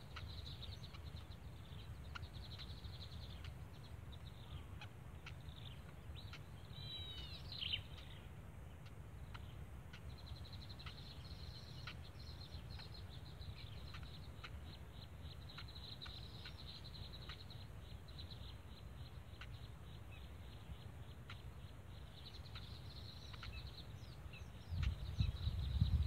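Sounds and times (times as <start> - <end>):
nestlings chattering chirps: 0.0 - 8.2, 9.2 - 26.0
steady low rumble: 0.0 - 26.0.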